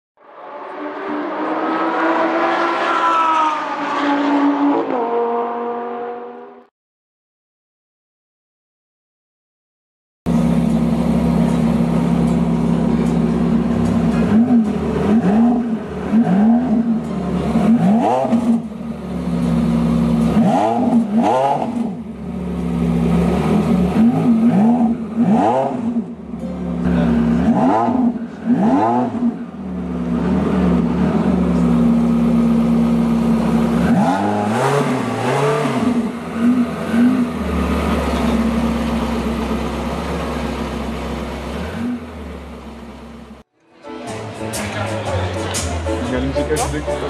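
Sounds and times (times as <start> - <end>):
car engine idling and revving: 0.2 - 6.6, 10.3 - 43.5.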